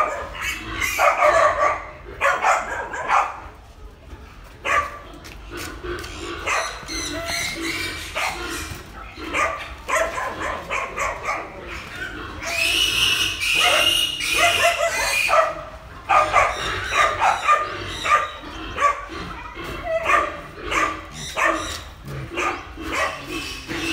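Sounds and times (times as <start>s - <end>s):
piglets squealing: 0.0s - 2.1s, 6.0s - 23.9s.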